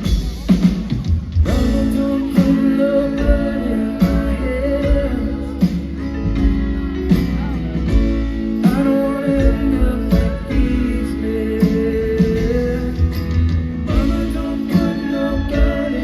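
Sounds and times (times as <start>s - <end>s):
drum hits: 0.0s - 16.0s
live band guitars: 0.0s - 16.0s.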